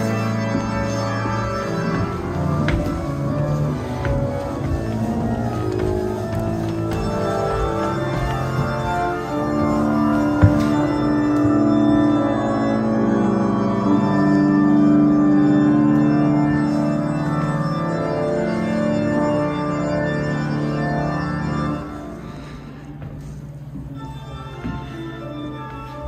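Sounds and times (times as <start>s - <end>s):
organ chords: 0.0s - 26.0s.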